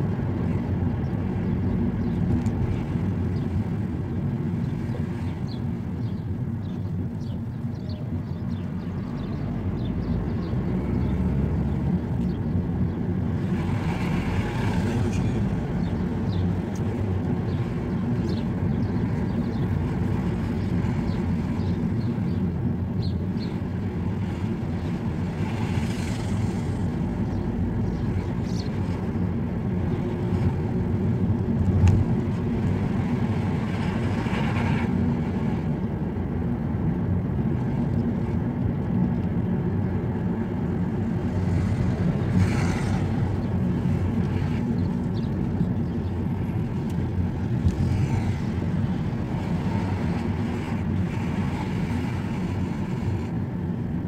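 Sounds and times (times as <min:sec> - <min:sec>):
car cabin road and engine rumble: 0:00.0 - 0:54.0.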